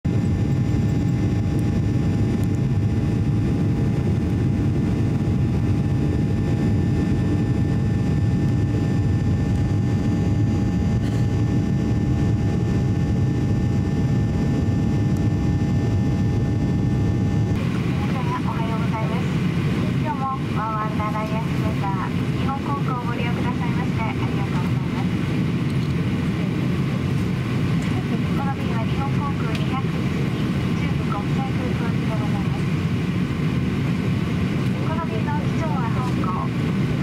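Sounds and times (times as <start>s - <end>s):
airplane cabin engine rumble: 0.1s - 37.0s.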